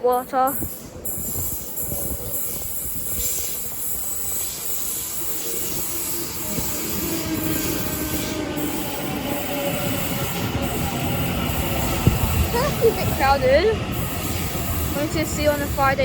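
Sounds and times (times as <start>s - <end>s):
train wheels squealing on rails: 0.0s - 16.0s.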